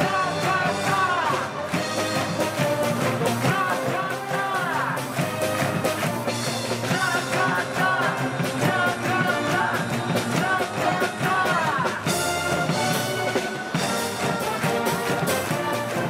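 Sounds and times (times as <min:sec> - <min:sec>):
crowd singing along: 0:00.0 - 0:16.0
live band music with steady beat: 0:00.0 - 0:16.0.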